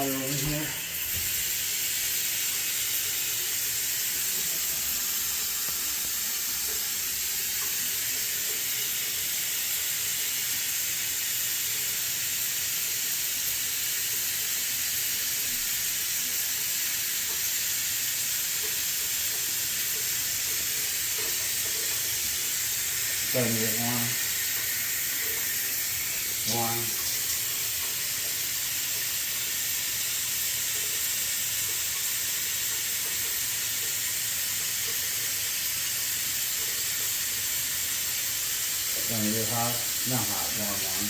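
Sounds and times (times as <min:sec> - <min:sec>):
shower water running: 0:00.0 - 0:41.0.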